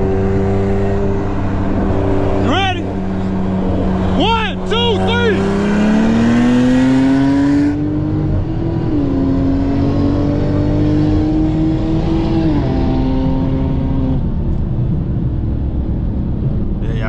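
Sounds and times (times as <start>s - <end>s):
car engine at full throttle: 0.0s - 17.0s.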